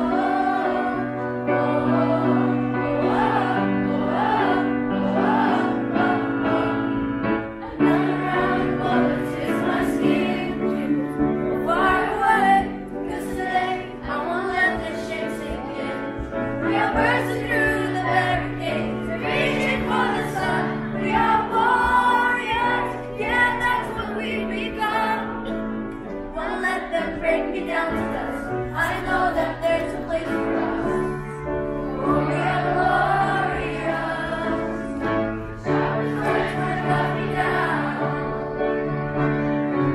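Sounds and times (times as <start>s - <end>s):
voices singing together: 0.0s - 39.9s.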